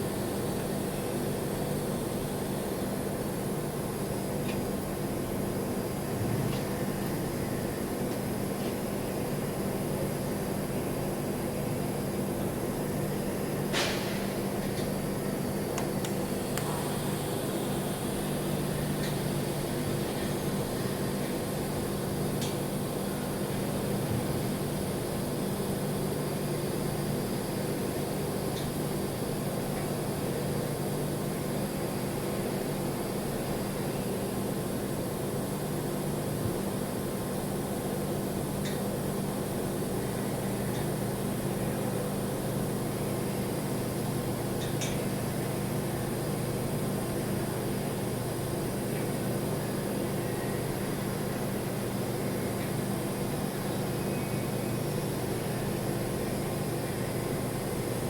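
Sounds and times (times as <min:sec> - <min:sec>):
machine hum with hiss: 0:00.0 - 0:58.0.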